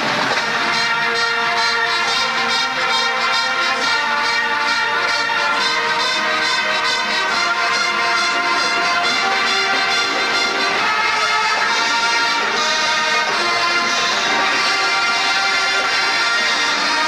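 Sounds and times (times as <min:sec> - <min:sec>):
brass held notes: 0:00.0 - 0:17.0
marching band playing: 0:00.0 - 0:17.0.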